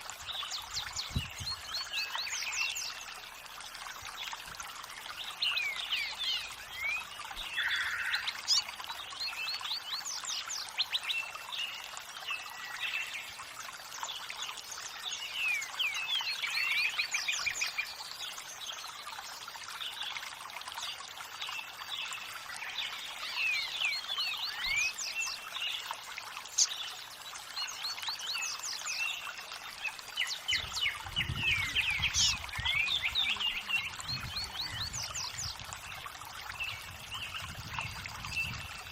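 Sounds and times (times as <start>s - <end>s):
running water rushing: 0.0s - 38.9s
small birds chirping: 4.2s - 19.0s, 20.8s - 38.9s.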